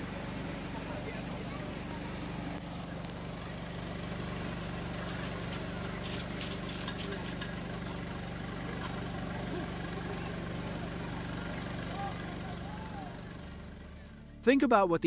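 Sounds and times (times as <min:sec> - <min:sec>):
engine idling: 0:00.0 - 0:14.5.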